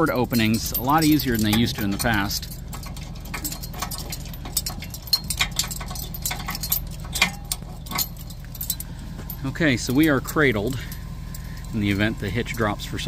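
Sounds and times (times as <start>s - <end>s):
steel chains clinking and rattling: 0.0s - 13.0s.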